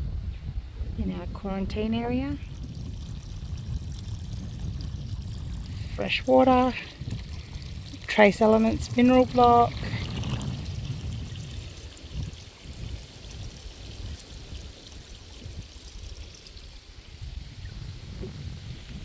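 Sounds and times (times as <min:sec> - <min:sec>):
wind buffeting microphone: 0:00.0 - 0:19.0
water trickling: 0:01.6 - 0:19.0.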